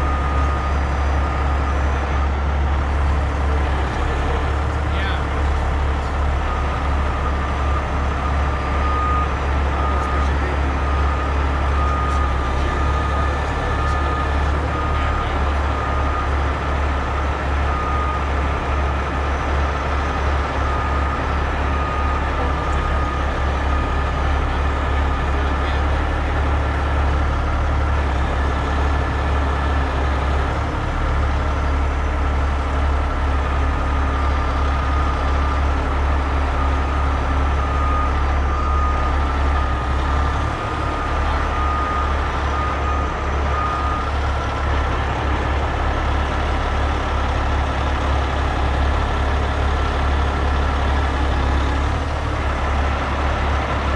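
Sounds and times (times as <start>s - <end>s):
constant high whine: 0.0s - 53.9s
diesel truck engine running: 0.0s - 53.9s.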